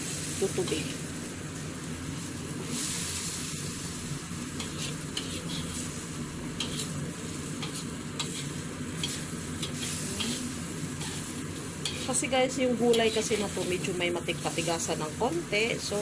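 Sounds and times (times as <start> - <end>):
meat and vegetables sizzling in pan: 0.0 - 16.0.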